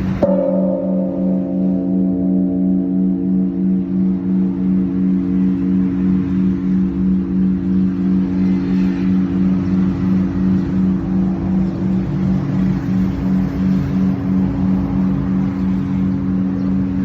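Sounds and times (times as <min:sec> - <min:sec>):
large bell humming: 0:00.0 - 0:17.0.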